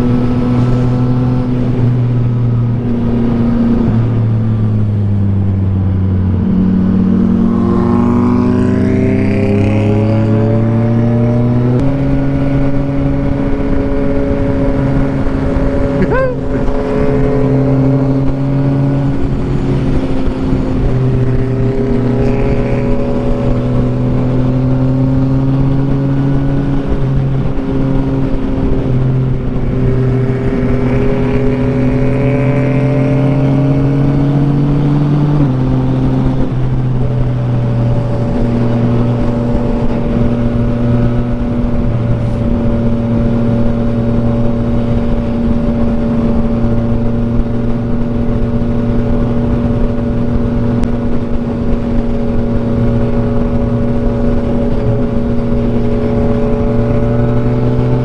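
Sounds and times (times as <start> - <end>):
motorcycle engine at speed: 0.0 - 58.0
wind rush: 0.0 - 58.0.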